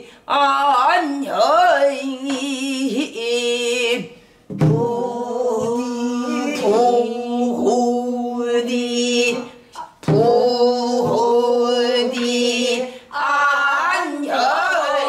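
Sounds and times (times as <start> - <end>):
woman singing with vibrato: 0.0 - 15.0.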